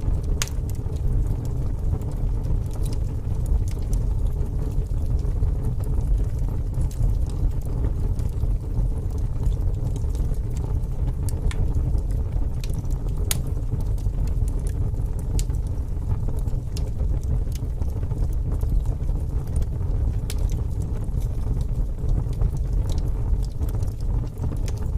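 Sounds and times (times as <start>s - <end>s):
fire crackles and pops: 0.0s - 24.9s
fire rumbling in a fireplace: 0.0s - 24.9s.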